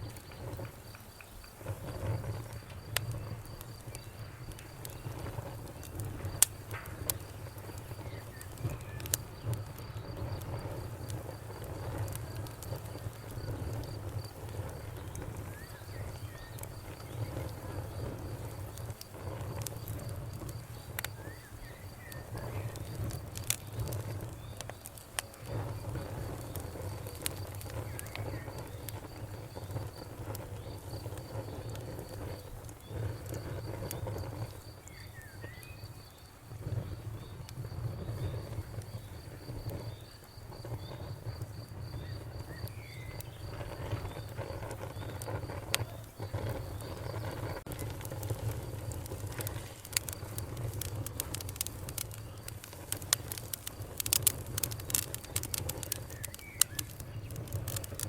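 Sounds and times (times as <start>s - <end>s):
campfire crackling and popping: 0.0s - 58.0s
insect chirping: 0.0s - 58.0s.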